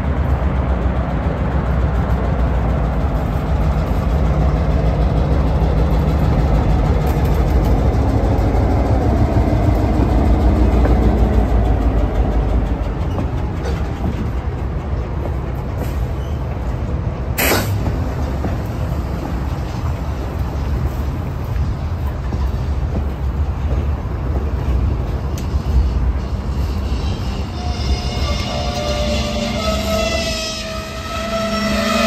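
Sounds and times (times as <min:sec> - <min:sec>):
diesel locomotive engine rumble: 0:00.0 - 0:32.0
rolling freight cars: 0:00.0 - 0:32.0.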